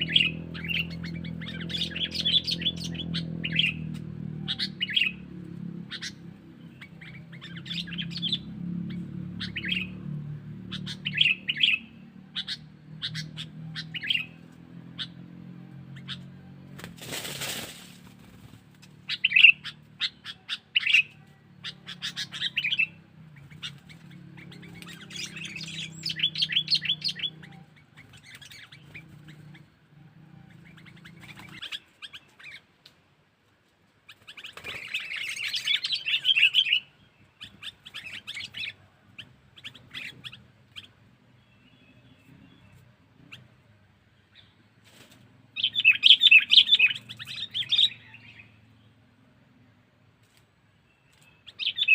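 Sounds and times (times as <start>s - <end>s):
bulbul chattering: 0.0s - 32.6s, 34.1s - 43.6s.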